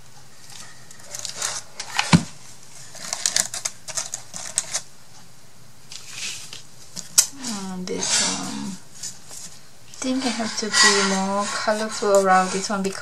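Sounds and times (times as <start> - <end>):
paper rustling: 0.4 - 4.8, 5.9 - 7.2, 8.0 - 13.0.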